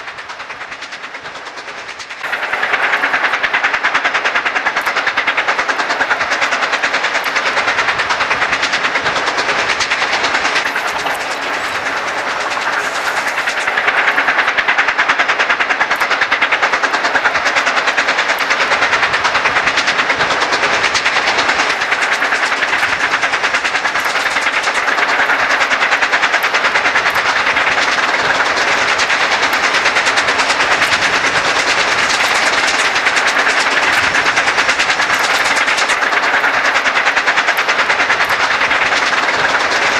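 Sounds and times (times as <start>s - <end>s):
steam locomotive exhaust beating: 0.0s - 39.9s.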